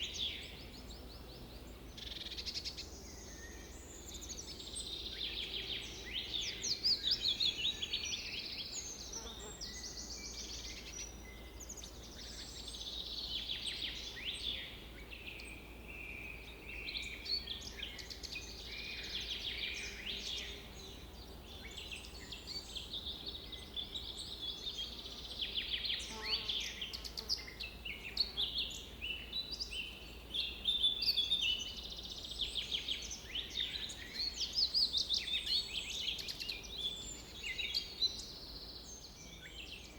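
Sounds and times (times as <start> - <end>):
songbird chorus: 0.0 - 39.9.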